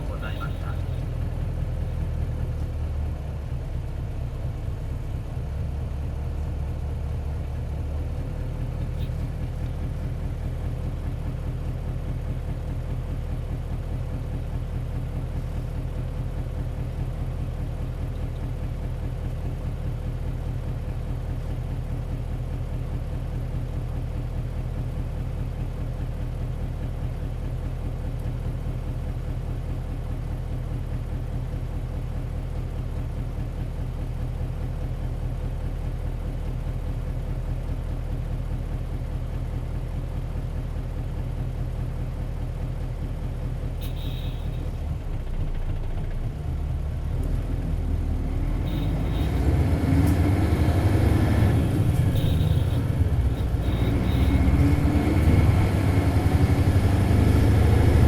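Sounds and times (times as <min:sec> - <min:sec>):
diesel bus engine rumble: 0:00.0 - 0:58.0.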